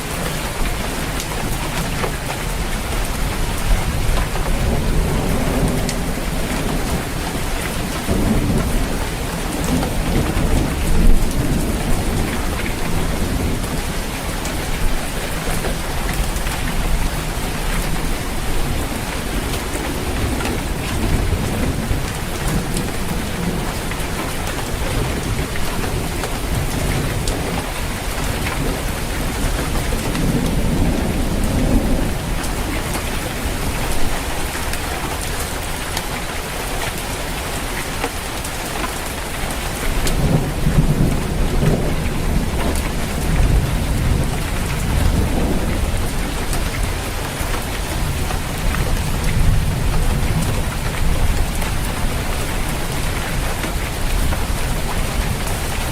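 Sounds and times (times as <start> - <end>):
low rolling thunder: 0.0 - 37.2, 39.3 - 55.9
heavy rain drumming on a roof: 0.0 - 55.9.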